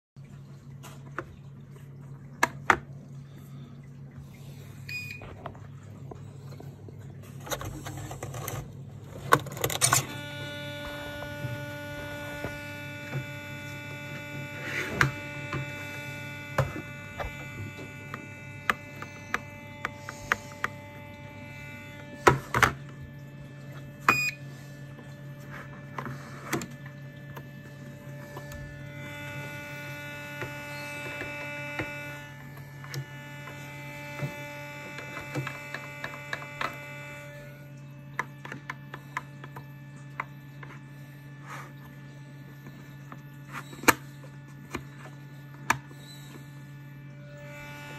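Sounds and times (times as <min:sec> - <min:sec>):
electrical hum: 0:00.2 - 0:47.9.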